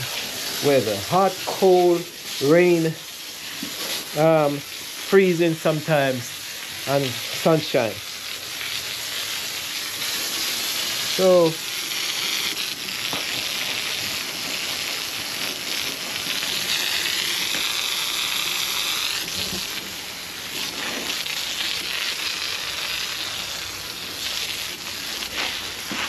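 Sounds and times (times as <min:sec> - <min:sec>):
hose spraying water on concrete: 0:00.0 - 0:26.0.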